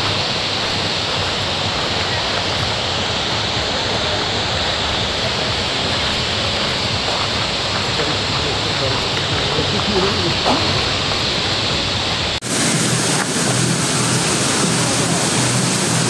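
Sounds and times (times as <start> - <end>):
waterfalls pouring into pool: 0.0 - 16.0.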